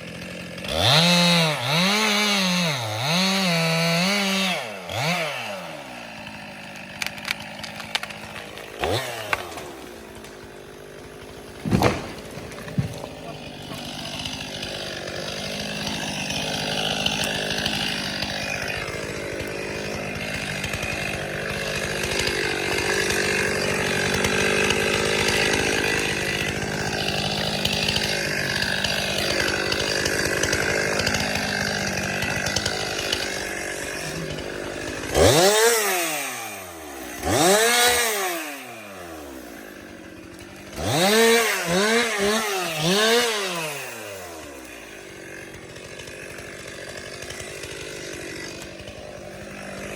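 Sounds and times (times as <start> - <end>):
chainsaw cutting tree: 0.0 - 49.9
chainsaw revving: 0.0 - 49.9.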